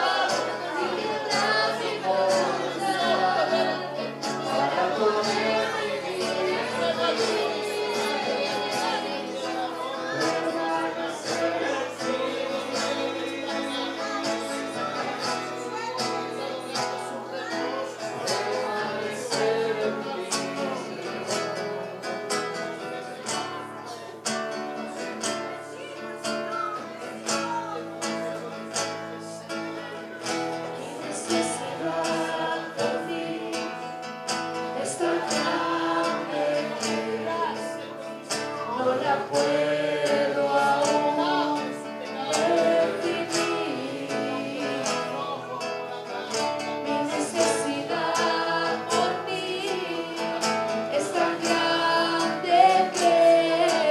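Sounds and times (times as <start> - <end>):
guitar accompaniment: 0.0 - 53.9
voices singing worship music: 0.0 - 53.9.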